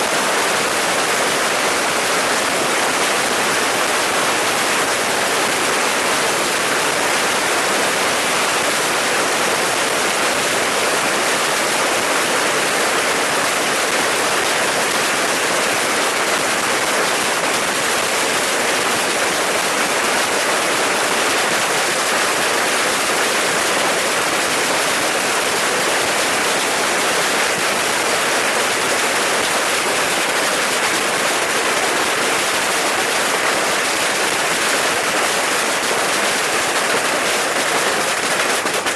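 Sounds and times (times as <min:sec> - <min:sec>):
fireworks hissing and crackling: 0:00.0 - 0:38.9.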